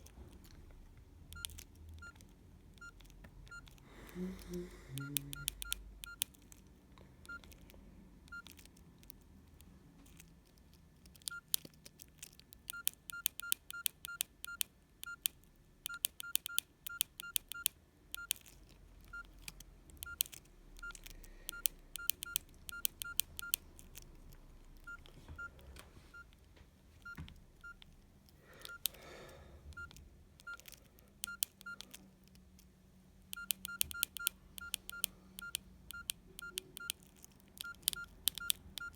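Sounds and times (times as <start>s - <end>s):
phone keypad clicks and beeps: 1.2s - 6.6s, 7.2s - 10.3s, 11.1s - 32.1s, 33.3s - 38.9s.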